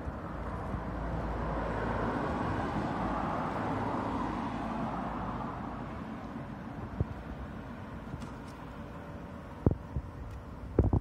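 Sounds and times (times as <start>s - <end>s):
road traffic rushing: 0.0s - 10.9s.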